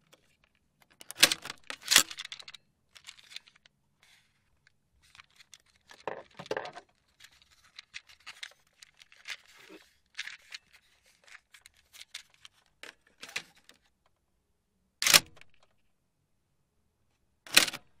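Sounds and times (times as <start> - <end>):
small plastic clicks and rattles: 0.0 - 14.2, 15.0 - 15.8, 17.5 - 17.9.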